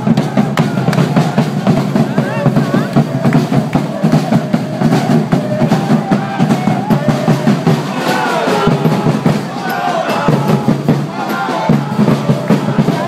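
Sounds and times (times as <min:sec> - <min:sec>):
crowd chanting and shouting: 0:00.0 - 0:13.0
drums beating rapid rhythm: 0:00.0 - 0:13.0.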